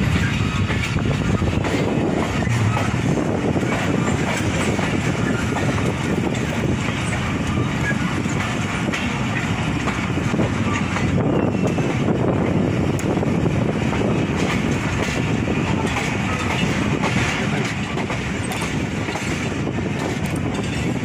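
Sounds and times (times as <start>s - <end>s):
train coach rattling: 0.0s - 21.0s
train wheels rumbling on rails: 0.0s - 21.0s.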